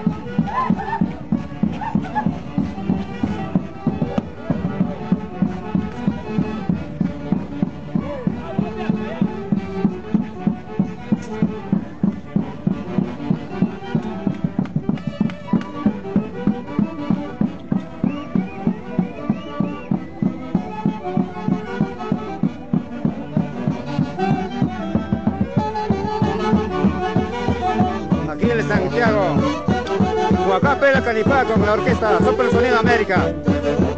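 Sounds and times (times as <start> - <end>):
folk orchestra playing melody: 0.0 - 33.9.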